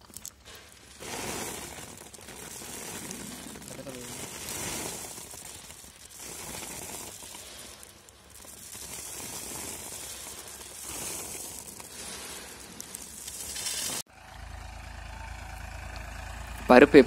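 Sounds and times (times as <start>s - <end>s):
seeds pouring from metal box: 0.0s - 14.1s.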